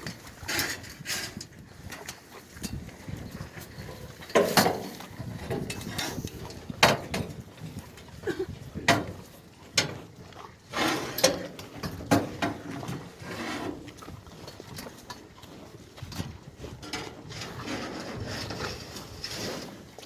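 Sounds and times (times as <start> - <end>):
cattle feeding: 0.0 - 20.0.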